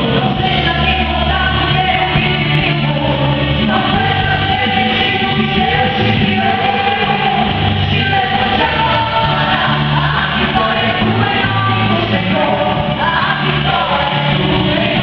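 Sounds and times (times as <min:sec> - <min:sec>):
instrumental backing: 0:00.0 - 0:15.0
steady bass line: 0:00.0 - 0:15.0
voices singing worship song: 0:00.0 - 0:15.0.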